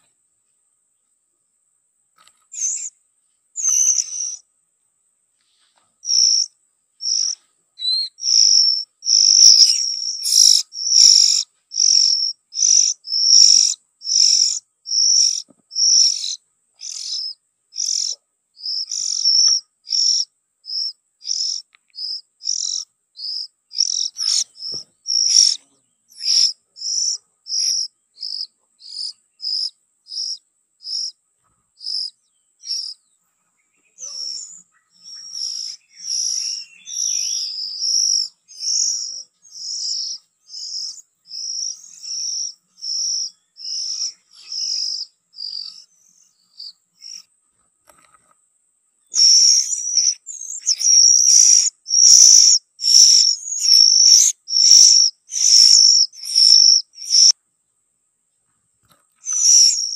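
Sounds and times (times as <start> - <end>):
bird chirping: 2.2 - 3.0, 3.6 - 4.5, 5.4 - 48.3, 49.0 - 57.4, 58.3 - 59.9.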